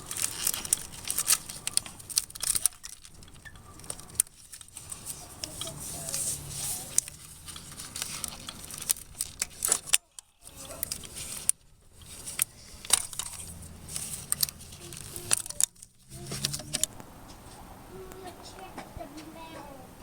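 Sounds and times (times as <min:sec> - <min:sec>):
small hard objects clinking: 0:00.0 - 0:16.9.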